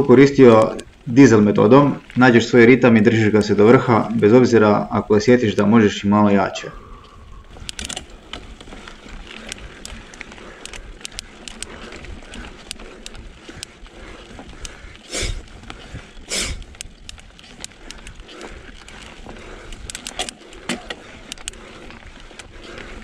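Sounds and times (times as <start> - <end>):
bike clicks and rattles: 0.0 - 23.0
bike tyres on dirt: 0.0 - 23.0.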